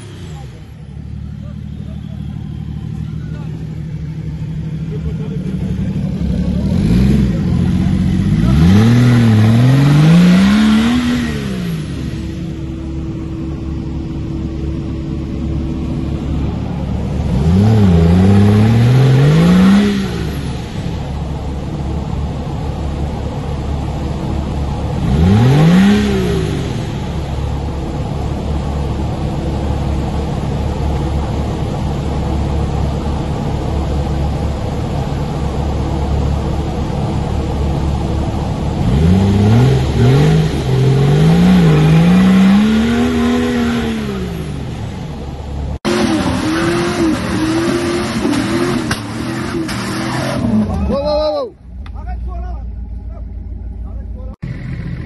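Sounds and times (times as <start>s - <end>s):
engine idling: 0.0s - 42.0s, 42.7s - 46.6s, 50.6s - 55.0s
off-road vehicle engine revving: 0.0s - 55.0s.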